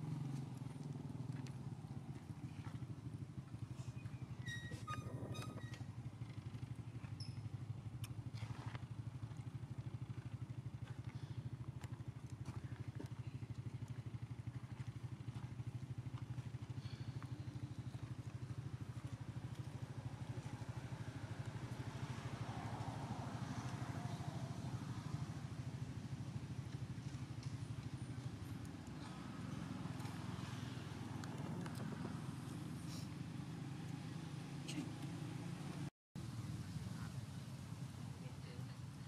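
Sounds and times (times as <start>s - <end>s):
motor idling hum: 0.0s - 38.1s.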